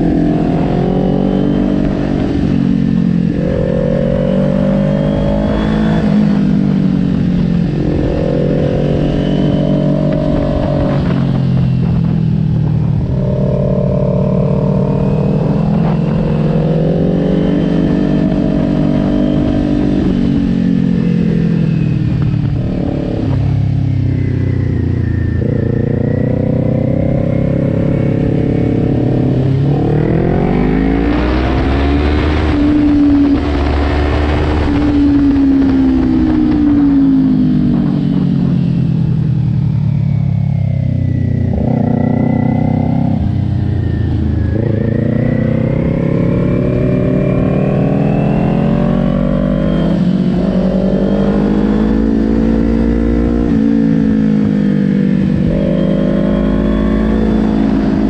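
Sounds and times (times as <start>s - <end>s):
motorcycle engine revving: 0.0s - 58.0s
wind rushing over microphone: 0.0s - 58.0s.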